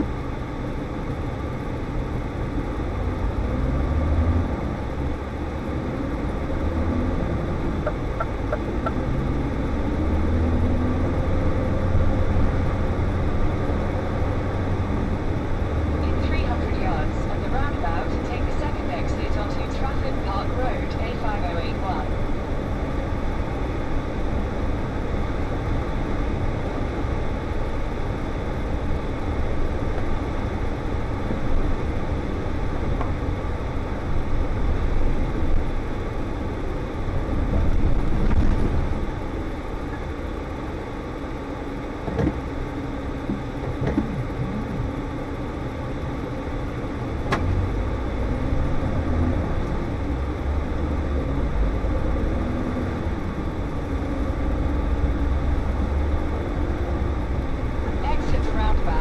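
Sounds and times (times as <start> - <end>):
road noise: 0.0 - 59.0
truck diesel engine: 0.0 - 59.0.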